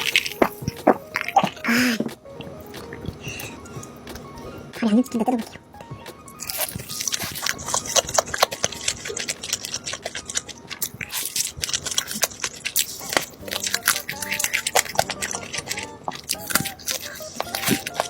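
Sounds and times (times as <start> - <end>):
crunchy biting and chewing: 0.0 - 18.0.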